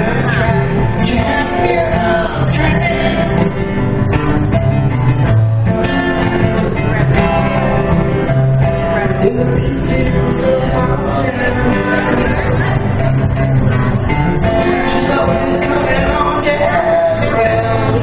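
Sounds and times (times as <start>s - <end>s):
man singing: 0.0s - 3.8s, 5.9s - 18.0s
guitar accompaniment: 0.0s - 18.0s.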